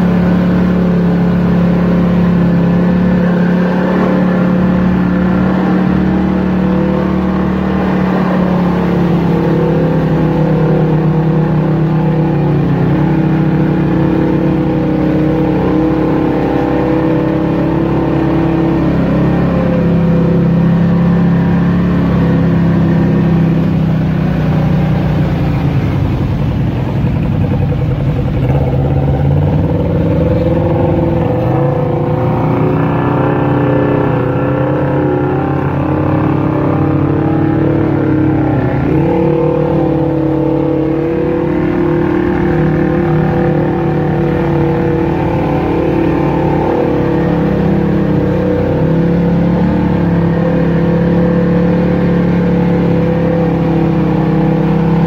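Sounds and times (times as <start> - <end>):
off-road vehicle engine: 0.0 - 55.0.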